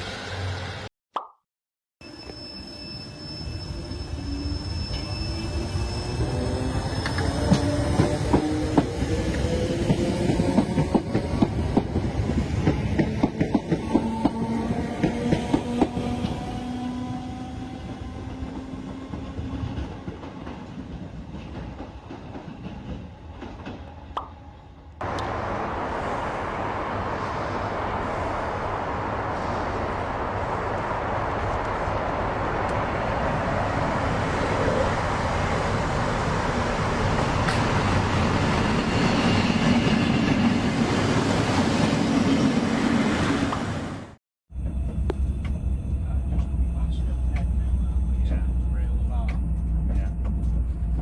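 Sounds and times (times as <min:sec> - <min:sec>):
train drive whining: 0:02.1 - 0:24.1, 0:24.8 - 0:51.0.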